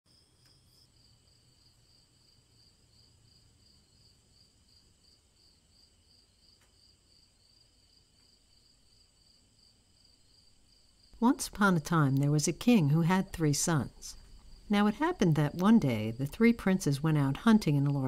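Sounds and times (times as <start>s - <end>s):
crickets chirping: 0.1s - 18.0s.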